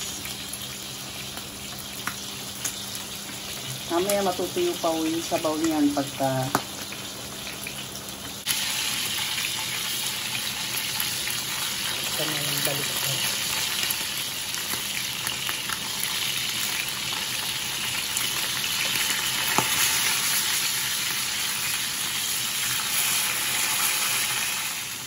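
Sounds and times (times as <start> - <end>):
fish frying in butter: 0.0 - 25.0.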